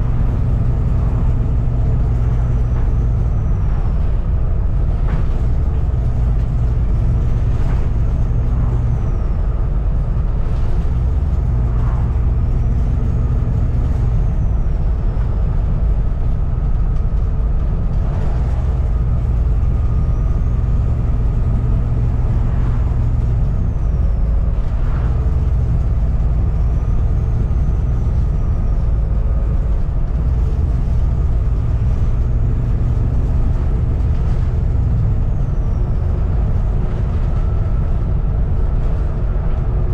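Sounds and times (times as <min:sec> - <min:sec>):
bus body rattling and knocking: 0:00.0 - 0:39.9
bus diesel engine drone: 0:00.0 - 0:39.9.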